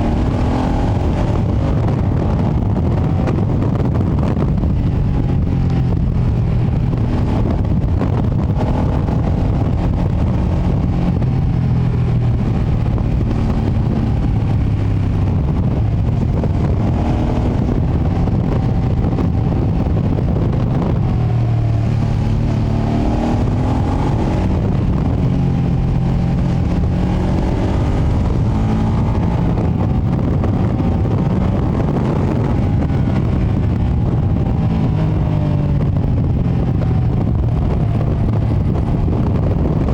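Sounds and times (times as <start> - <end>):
motorcycle engine accelerating: 0.0 - 39.9
road rumble: 0.0 - 39.9
wind on microphone: 0.0 - 39.9.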